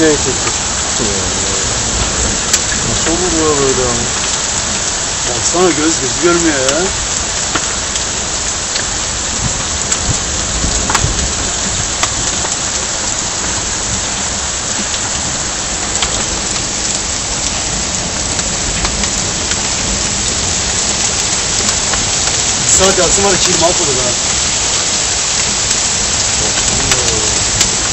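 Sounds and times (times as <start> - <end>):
torrential rain on street: 0.0 - 27.9.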